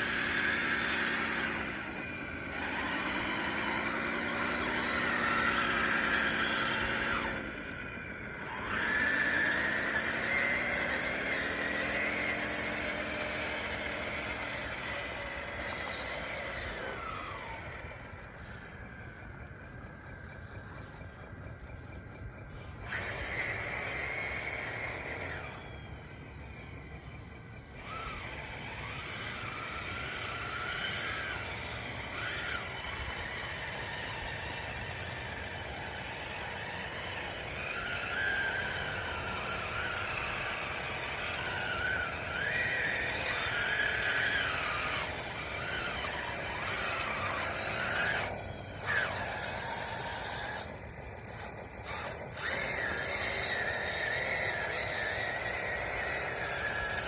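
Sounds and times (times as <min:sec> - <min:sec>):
model bulldozer motors whining: 0:00.0 - 0:57.0.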